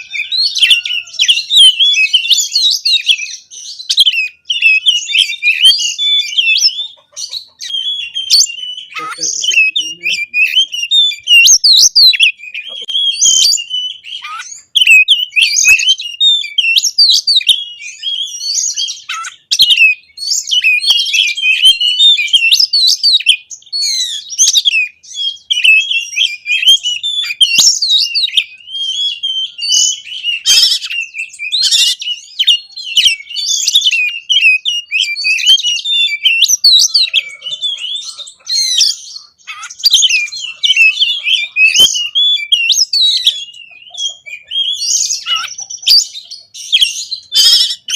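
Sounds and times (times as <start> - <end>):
songbird singing whistled phrases: 0.0 - 47.9.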